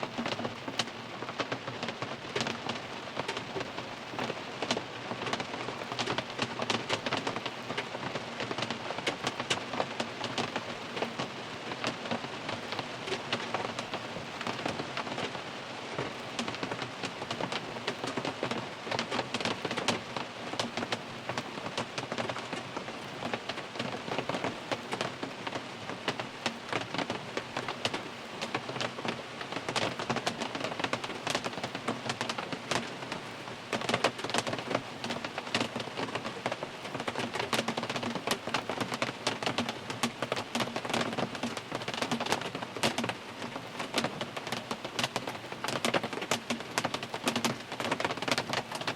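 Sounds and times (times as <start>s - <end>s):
rain pattering on a car: 0.0s - 48.9s.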